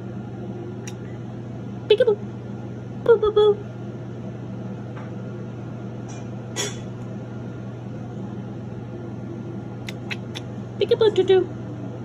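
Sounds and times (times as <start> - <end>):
low hum of room tone: 0.0 - 12.0.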